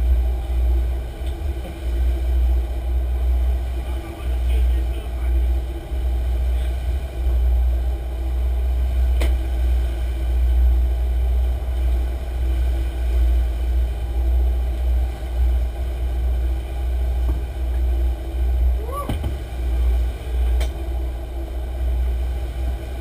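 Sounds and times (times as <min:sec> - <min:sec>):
boat engines rumbling: 0:00.0 - 0:23.0.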